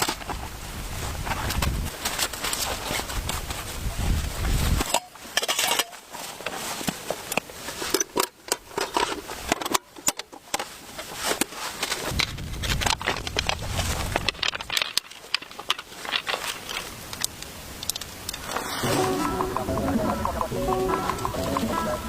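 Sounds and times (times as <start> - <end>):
objects being handled: 0.0 - 22.0.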